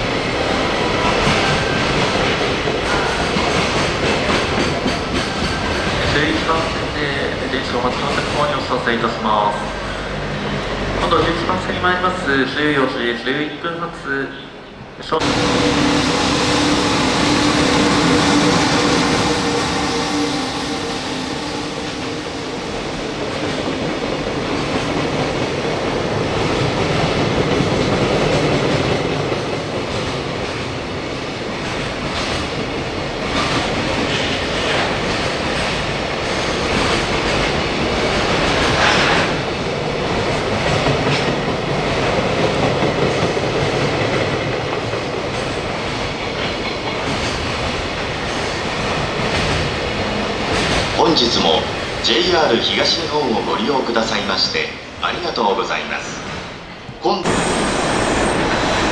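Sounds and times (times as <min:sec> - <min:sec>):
train rumbling: 0:00.0 - 0:58.9.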